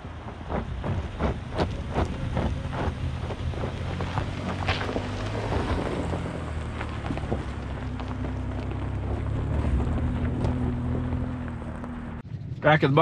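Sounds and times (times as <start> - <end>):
tyres crunching over gravel: 0.0 - 12.2
truck engine running: 0.0 - 13.0.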